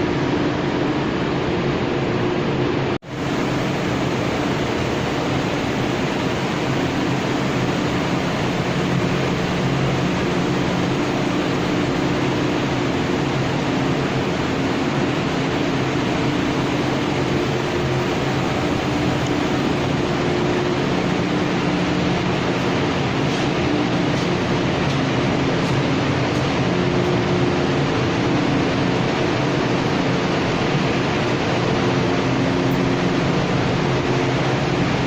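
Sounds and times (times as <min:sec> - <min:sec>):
industrial machine running: 0:00.0 - 0:35.0
low mechanical hum: 0:00.0 - 0:35.0.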